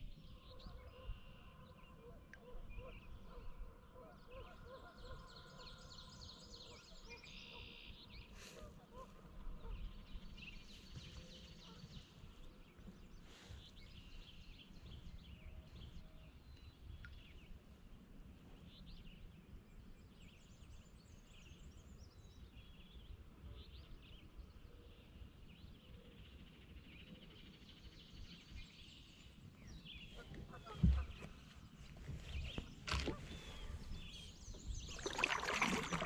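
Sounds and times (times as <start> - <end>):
faint birdsong chirps and trills: 0.0 - 36.0.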